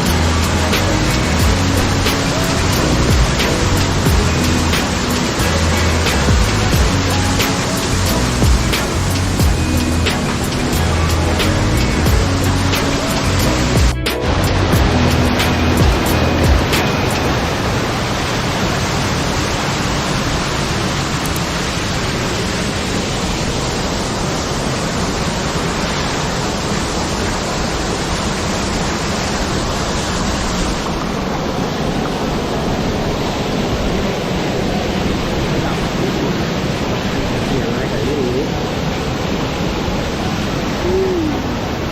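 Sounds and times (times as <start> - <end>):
waterfall rushing and splashing: 0.0 - 41.9.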